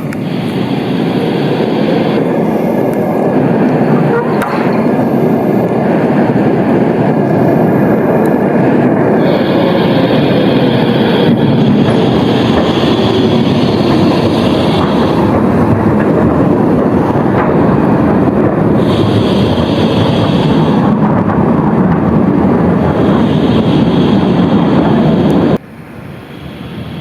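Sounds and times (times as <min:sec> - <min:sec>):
high steady squeal: 0:00.0 - 0:27.0
tram wheels rumbling on rails: 0:00.0 - 0:27.0.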